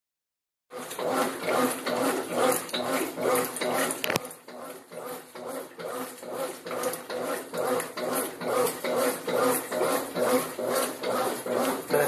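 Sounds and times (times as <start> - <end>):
washing machine agitator swishing: 0.7 - 12.0.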